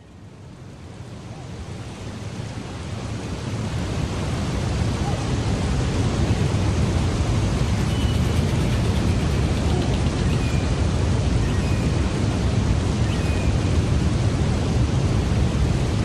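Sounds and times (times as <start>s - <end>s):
waterfall roaring: 0.9s - 16.0s.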